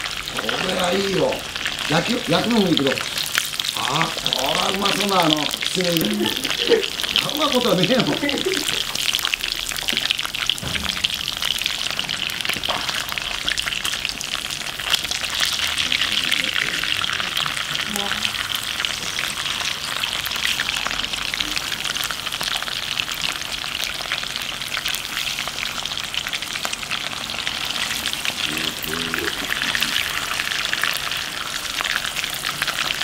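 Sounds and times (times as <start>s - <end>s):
eel sizzling in hot oil: 0.0s - 33.0s.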